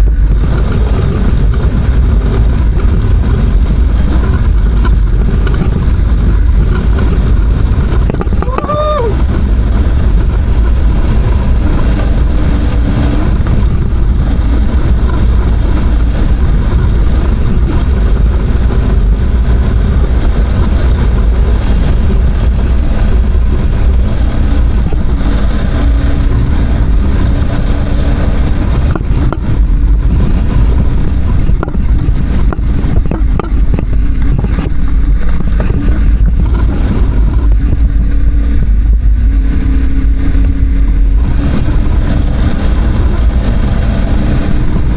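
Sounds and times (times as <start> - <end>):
motorcycle engine under throttle: 0.0 - 44.9
wind buffeting microphone: 0.0 - 44.9.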